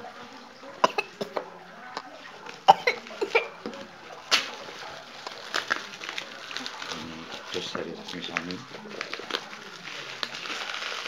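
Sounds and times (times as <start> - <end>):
bubble wrap rustling and crackling: 2.1 - 11.0.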